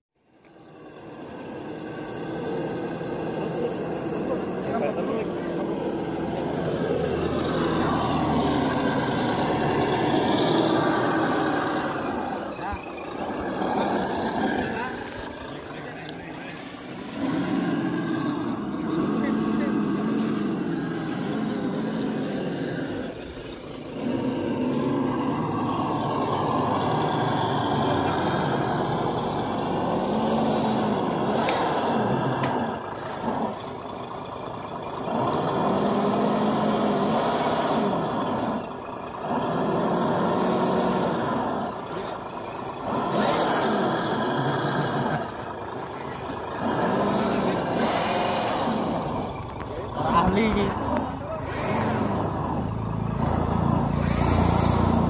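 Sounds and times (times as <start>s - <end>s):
simulated diesel engine revving: 0.2s - 55.0s.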